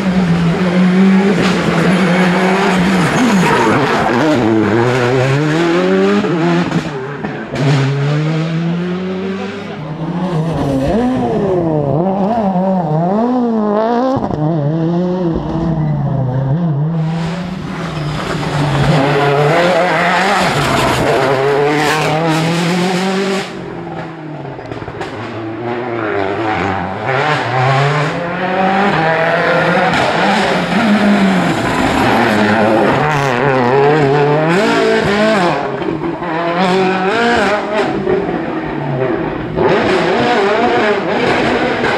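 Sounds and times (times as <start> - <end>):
rally car engines revving hard: 0.0 - 41.9.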